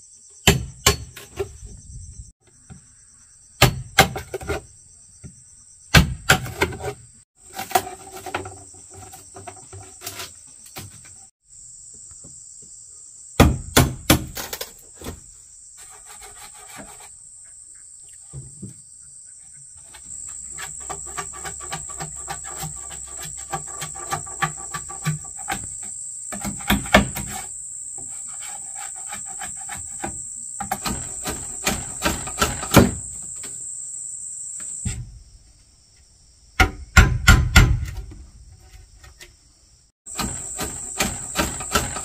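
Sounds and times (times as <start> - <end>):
high-pitched insect chorus: 0.0 - 6.0, 8.1 - 37.0, 38.0 - 42.0.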